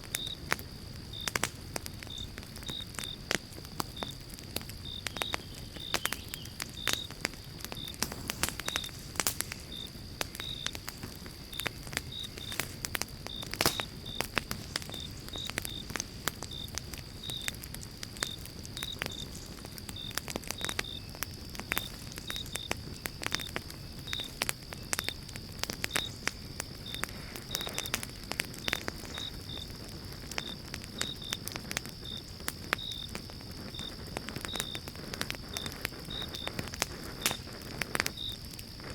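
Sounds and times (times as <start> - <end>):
campfire crackling and popping: 0.0 - 38.9
rush of flame: 0.0 - 38.9.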